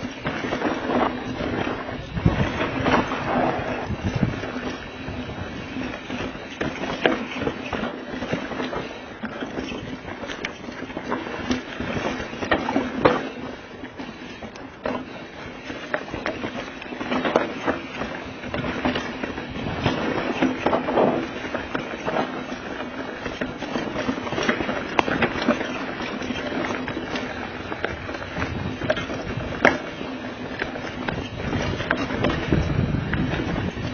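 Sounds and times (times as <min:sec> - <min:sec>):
bike tyres rattling over rocks: 0:00.0 - 0:33.9.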